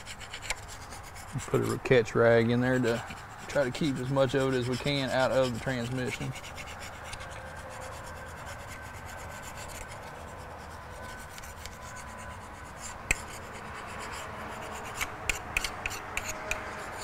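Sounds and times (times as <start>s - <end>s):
hand scraper scraping metal: 0.0s - 17.0s.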